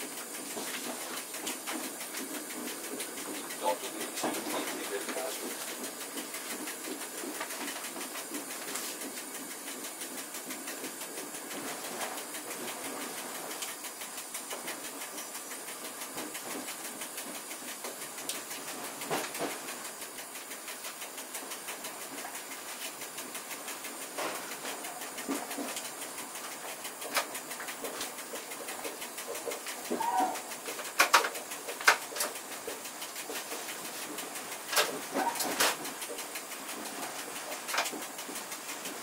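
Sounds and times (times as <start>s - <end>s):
train running noise and hiss: 0.0s - 39.0s
wheel clicks over track: 0.0s - 39.0s.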